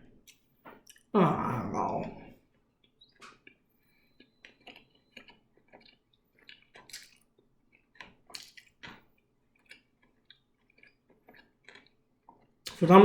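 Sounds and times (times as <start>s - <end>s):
person chewing food: 2.4s - 12.9s.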